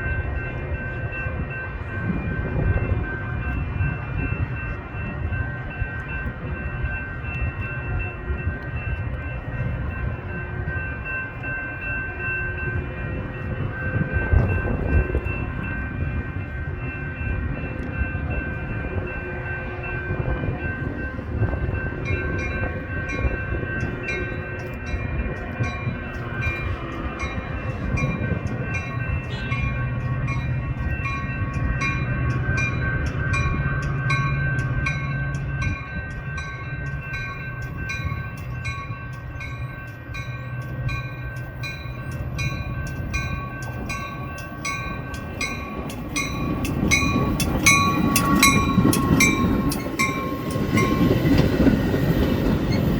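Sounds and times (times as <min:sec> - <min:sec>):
high ringing tone: 0:00.0 - 0:51.5
regular clicking of train wheels: 0:00.0 - 0:52.9
train rumbling on rails: 0:00.0 - 0:52.9.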